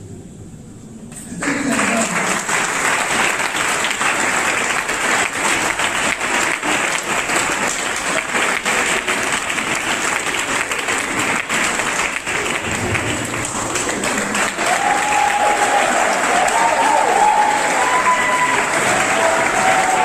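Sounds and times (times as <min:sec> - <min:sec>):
audience applauding: 0:01.2 - 0:20.0.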